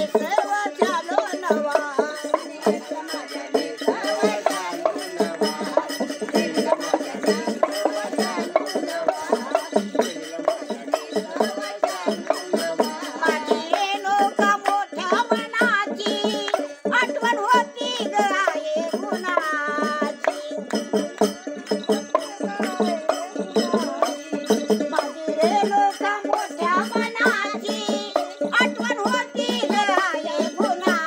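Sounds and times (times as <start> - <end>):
rhythmic percussion: 0.0 - 31.0
women singing folk song: 0.0 - 31.0.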